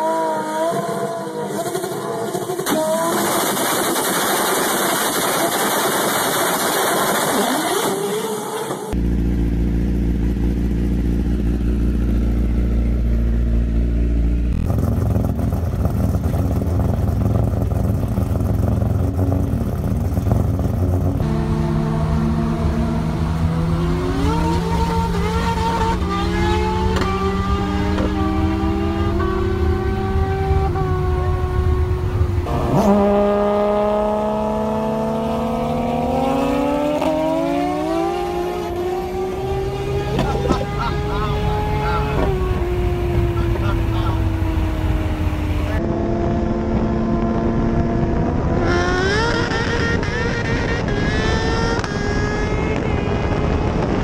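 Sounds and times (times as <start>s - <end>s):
drag car engine roaring: 0.0s - 54.0s
vehicle accelerating through gears: 6.8s - 54.0s.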